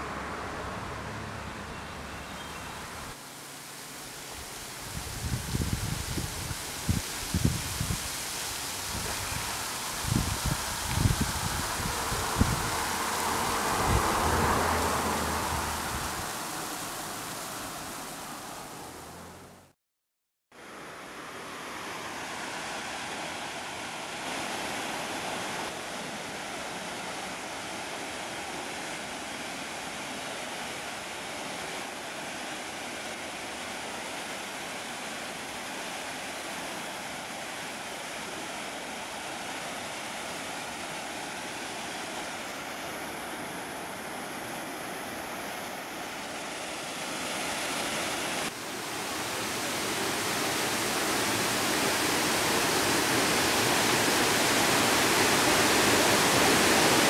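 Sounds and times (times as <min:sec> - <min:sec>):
waterfall rushing: 0:00.0 - 0:19.6, 0:20.6 - 0:57.0.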